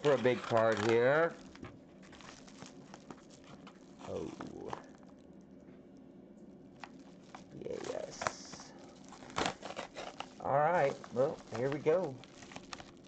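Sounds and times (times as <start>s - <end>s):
padded mailer crinkling and tearing: 0.0s - 5.2s, 6.8s - 13.0s.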